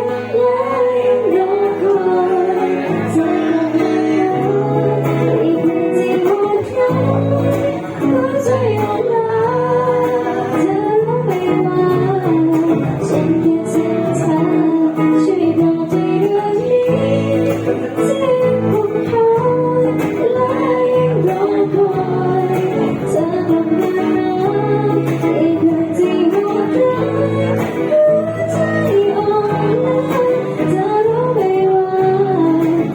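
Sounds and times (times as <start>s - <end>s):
acoustic guitar: 0.0s - 32.9s
woman singing a slow ballad: 0.0s - 32.9s.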